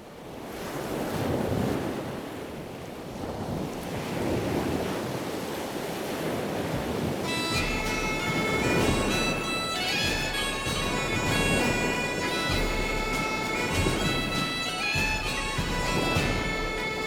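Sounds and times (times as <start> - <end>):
ocean waves rushing: 0.0 - 17.0.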